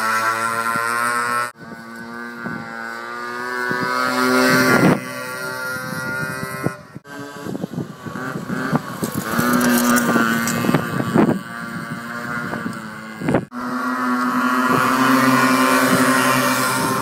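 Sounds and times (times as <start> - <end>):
small motorcycle engine revving: 0.0 - 17.0.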